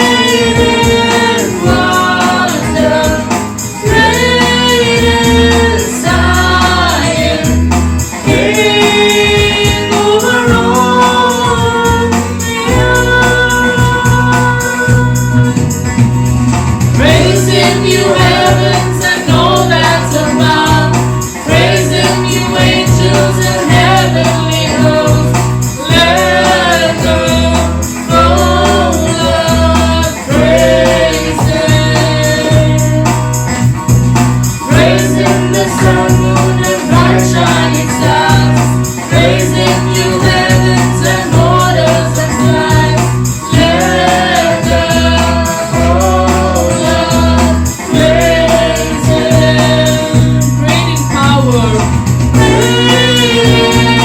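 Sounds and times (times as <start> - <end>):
backing band with bass: 0.0 - 54.0
voices singing worship song: 0.0 - 54.0.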